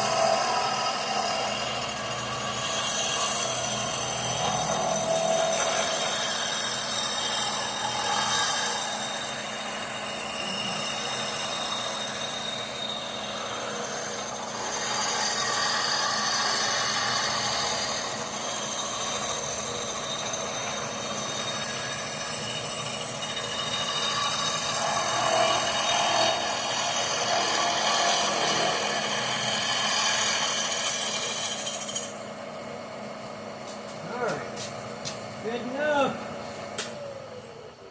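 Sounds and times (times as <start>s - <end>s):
power tool whining on metal: 0.0s - 37.9s.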